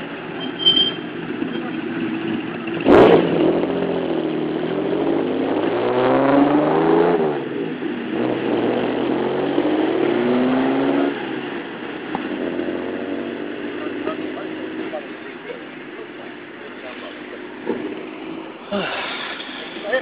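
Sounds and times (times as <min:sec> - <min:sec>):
car engine revving hard: 0:01.0 - 0:20.0.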